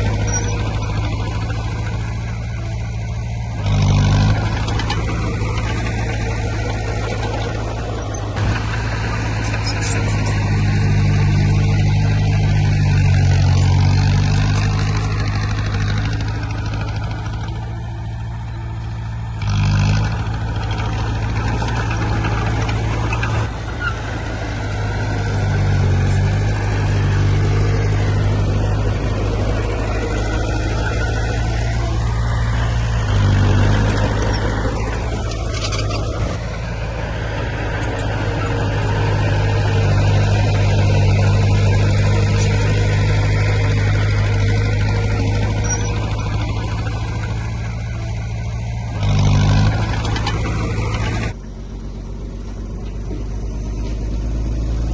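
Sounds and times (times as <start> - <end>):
heavy machinery engine running: 0.0 - 54.9.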